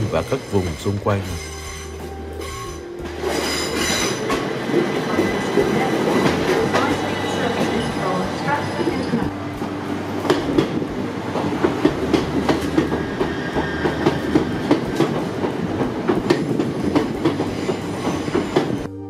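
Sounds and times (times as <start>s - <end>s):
passenger train running past: 0.0s - 19.0s.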